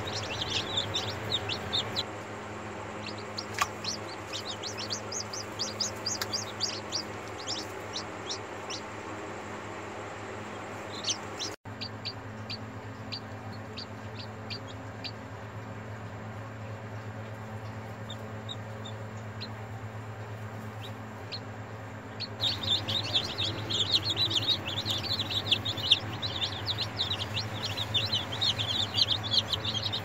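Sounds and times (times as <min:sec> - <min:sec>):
chicks peeping: 0:00.0 - 0:30.0
steady low hum: 0:00.0 - 0:30.0.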